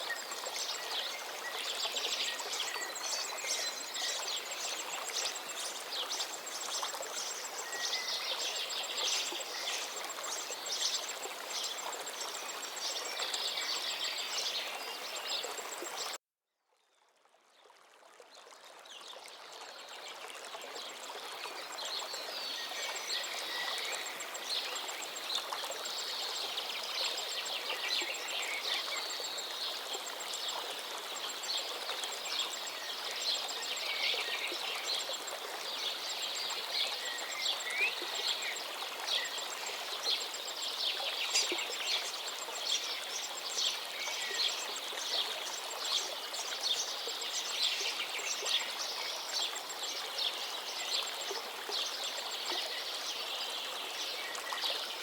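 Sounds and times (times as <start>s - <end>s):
river flowing: 0.0s - 16.2s, 17.2s - 55.0s.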